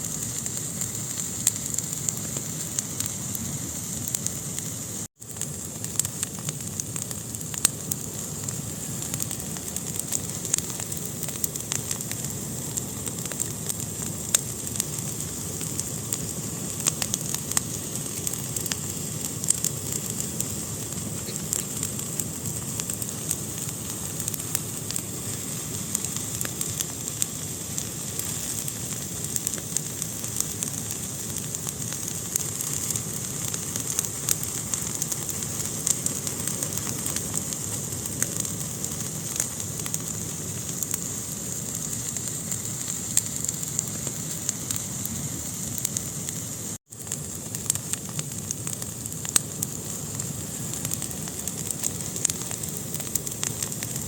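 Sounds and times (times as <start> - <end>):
fire crackling and popping: 0.0 - 54.0
fire hiss: 0.0 - 54.0.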